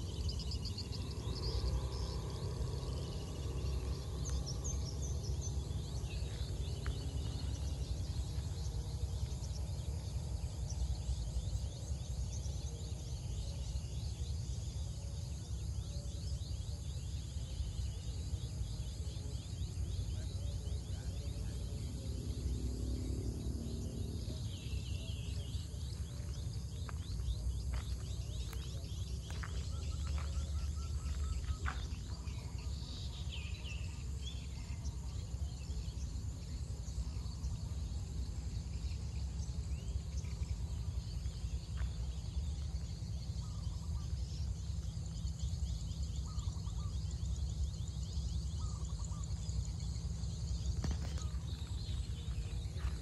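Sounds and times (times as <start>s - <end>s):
insects chirring: 0.0s - 53.0s
steady low rumble: 0.0s - 53.0s.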